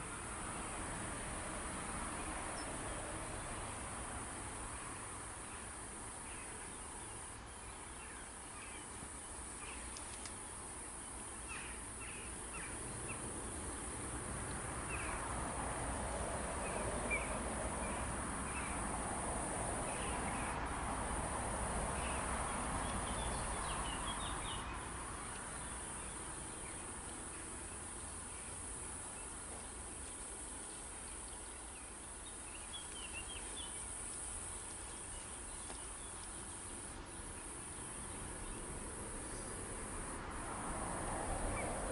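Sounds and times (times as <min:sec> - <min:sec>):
high drone of insects: 0:00.0 - 0:41.9.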